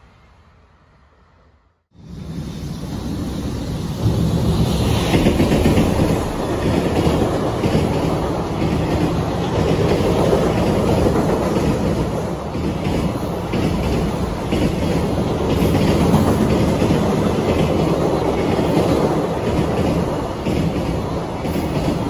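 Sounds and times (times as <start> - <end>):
freight train wheels rolling on rails: 1.9 - 22.0.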